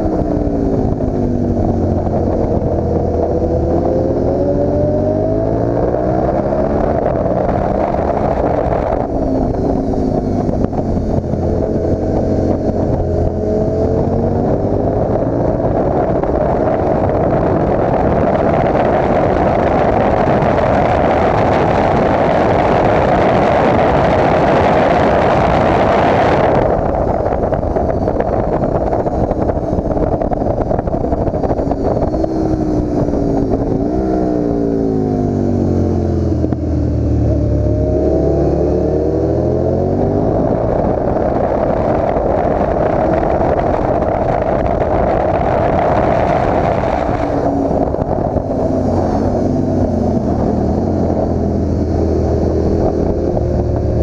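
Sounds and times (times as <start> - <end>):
motorcycle engine revving: 0.0 - 54.0
wind rush on microphone: 0.0 - 54.0.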